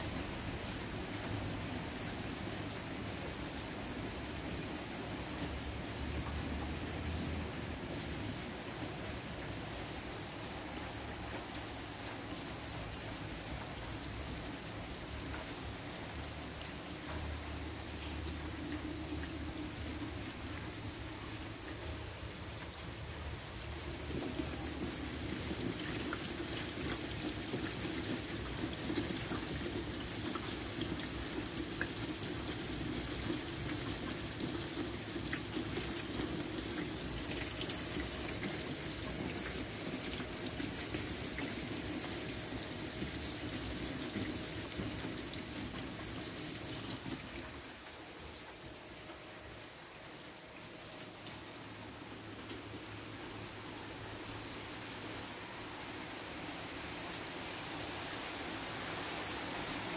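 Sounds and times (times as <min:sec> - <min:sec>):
rain on wet pavement: 0:00.0 - 0:54.7.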